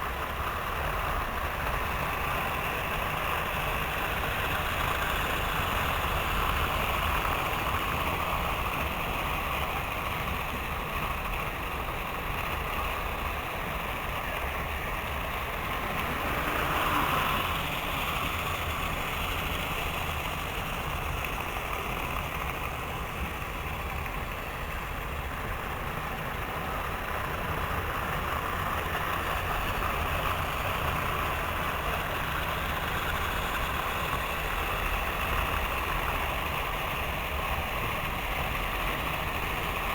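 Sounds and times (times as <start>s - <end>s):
model trains whirring: 0.0s - 39.9s.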